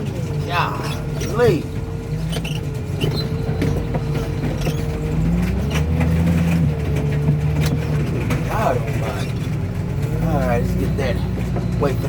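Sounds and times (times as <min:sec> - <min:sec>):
diesel engine and hydraulic pump: 0:00.0 - 0:12.0
metal clicks and creaks: 0:00.3 - 0:10.2.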